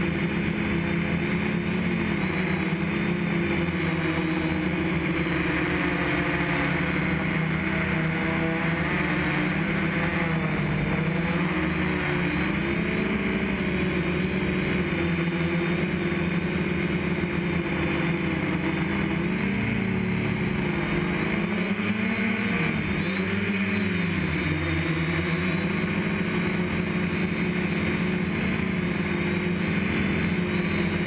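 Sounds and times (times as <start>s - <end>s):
drone motors and propellers: 0.0s - 31.0s.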